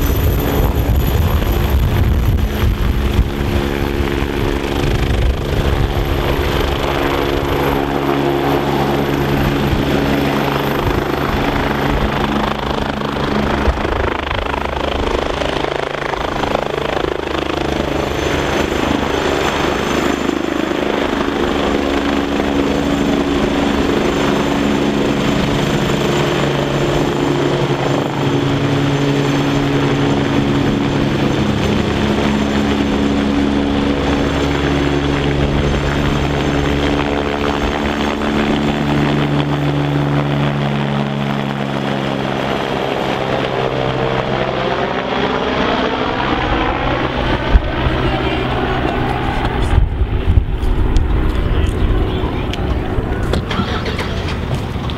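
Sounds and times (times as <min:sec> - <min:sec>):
helicopter rotor and turbine: 0:00.0 - 0:54.9.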